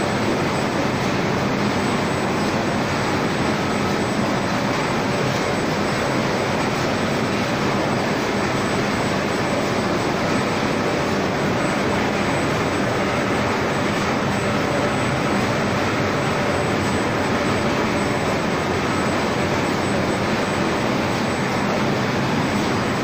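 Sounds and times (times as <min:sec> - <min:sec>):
printing press running: 0:00.0 - 0:23.0.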